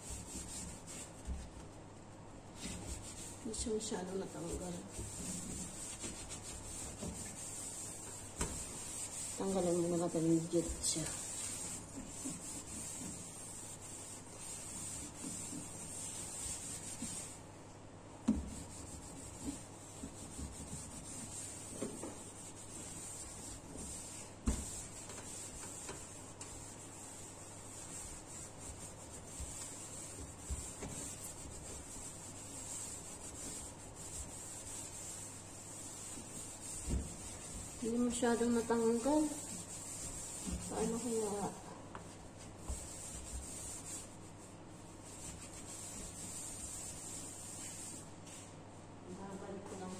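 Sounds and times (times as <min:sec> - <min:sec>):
cloth wiping metal stovetop: 0:02.5 - 0:17.4, 0:18.5 - 0:48.6.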